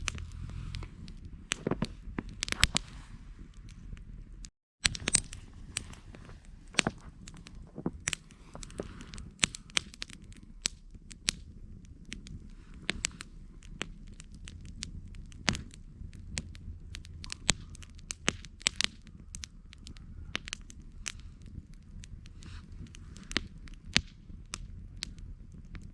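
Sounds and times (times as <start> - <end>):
low steady rumble: 0.0 - 25.9
wood crackling and popping: 0.0 - 25.9.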